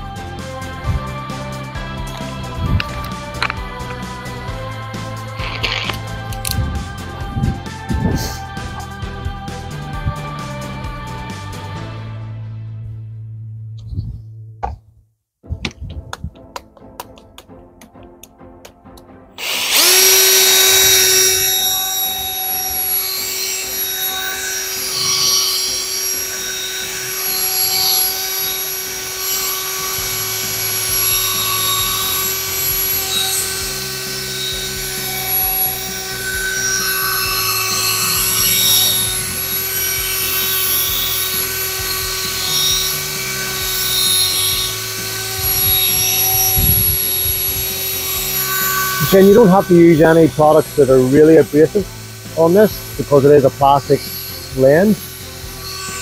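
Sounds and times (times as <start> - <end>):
electric drill whine: 0.0 - 11.7, 19.4 - 56.0.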